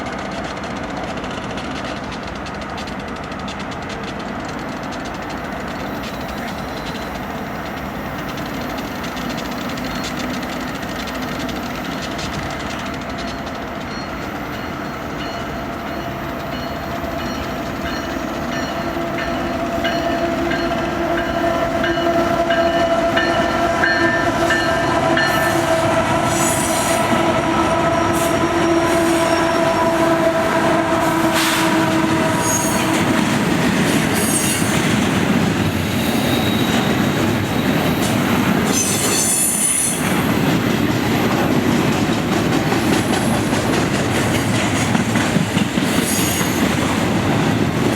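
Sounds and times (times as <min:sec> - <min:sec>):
rumble and clatter of train cars: 0:00.0 - 0:47.9
train wheel squeal: 0:02.2 - 0:47.9.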